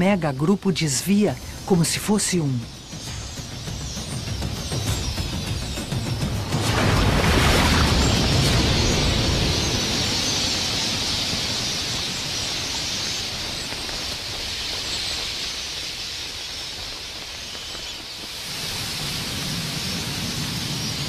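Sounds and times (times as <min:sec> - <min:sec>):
birds twittering: 0:00.0 - 0:21.0
flock wingbeats hissing: 0:02.6 - 0:21.0.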